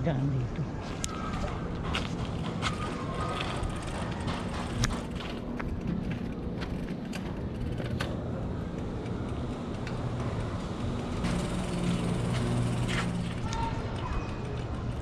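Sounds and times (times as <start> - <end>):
bicycle riding noise: 0.7 - 15.0
bike clicks and rattles: 1.0 - 15.0.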